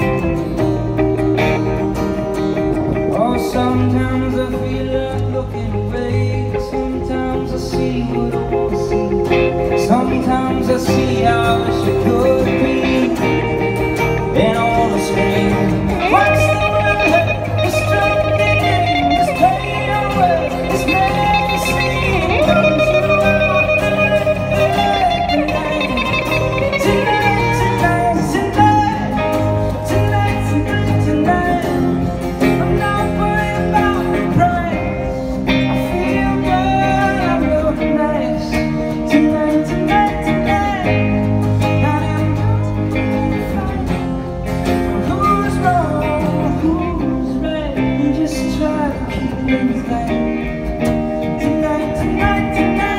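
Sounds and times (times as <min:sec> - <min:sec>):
electric guitar melody: 0:00.0 - 0:52.9
steady bass line: 0:00.0 - 0:52.9.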